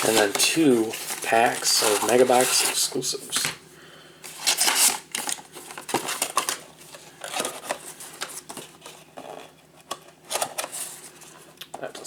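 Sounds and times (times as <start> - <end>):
cardboard and wrappers crinkling: 0.0 - 3.6, 4.2 - 11.4.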